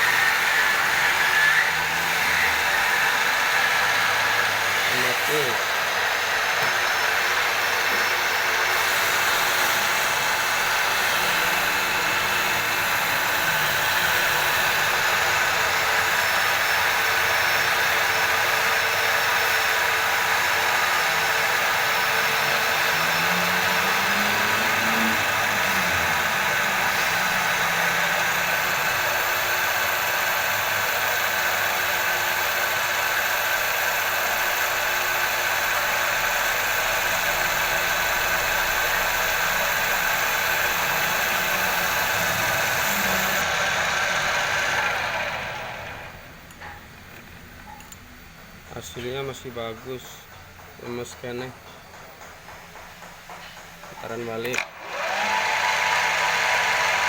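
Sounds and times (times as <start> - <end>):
lathe motor whining: 0.0 - 57.0.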